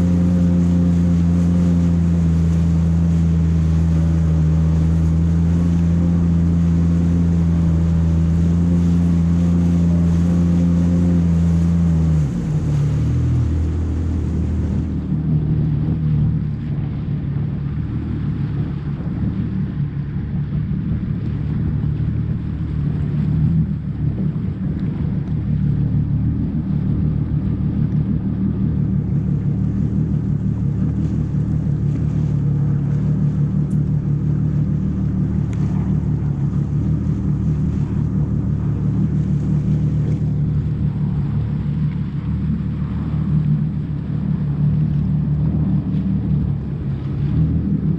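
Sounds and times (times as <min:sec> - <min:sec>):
jet ski engine running: 0:00.0 - 0:47.9.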